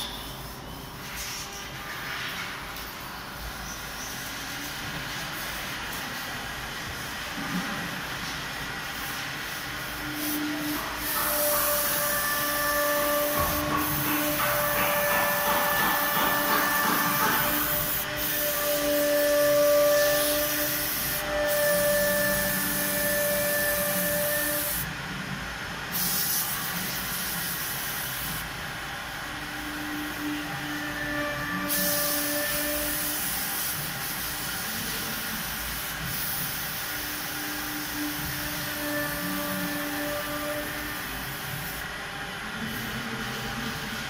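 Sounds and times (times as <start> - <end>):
compressed air hissing: 0.0 - 24.9, 25.8 - 30.2, 30.8 - 42.0.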